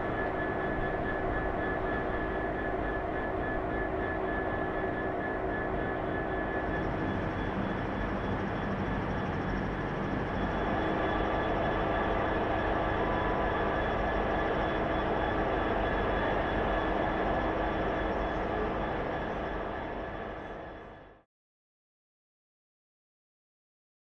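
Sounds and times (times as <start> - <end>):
diesel locomotive engine droning: 0.0 - 21.2
steady whining tones: 0.0 - 21.2.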